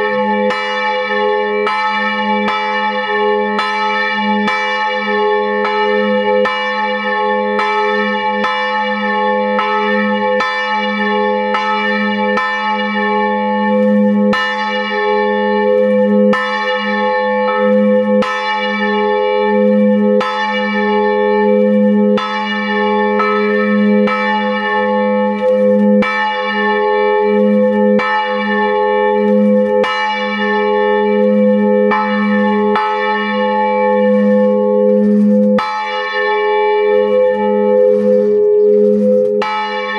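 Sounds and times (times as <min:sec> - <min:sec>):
church bell pealing: 0:00.0 - 0:39.9
deep bell hum: 0:00.0 - 0:39.9.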